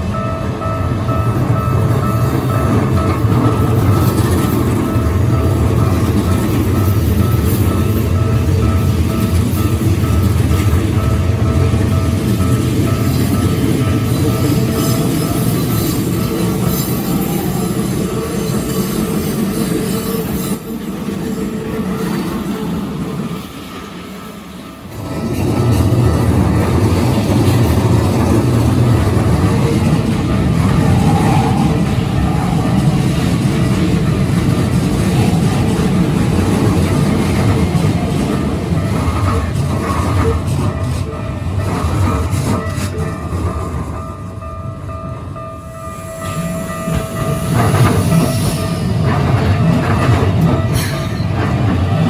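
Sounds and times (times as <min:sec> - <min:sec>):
train rumbling on rails: 0:00.0 - 0:52.0.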